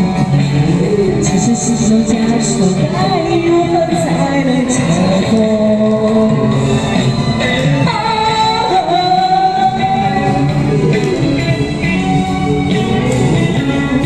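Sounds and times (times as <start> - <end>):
guitar over bass and drums: 0.0 - 14.0.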